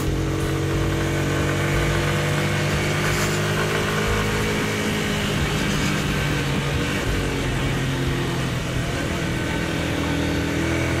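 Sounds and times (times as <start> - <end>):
motorcycle engine running: 0.0 - 11.0
wind and road rush: 0.0 - 11.0.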